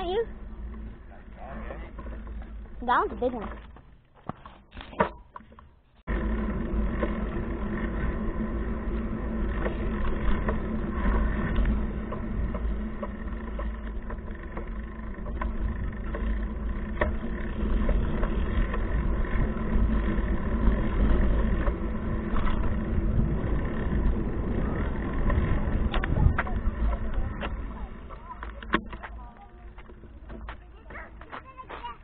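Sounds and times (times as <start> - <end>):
wind and road noise rumble: 0.0 - 32.0.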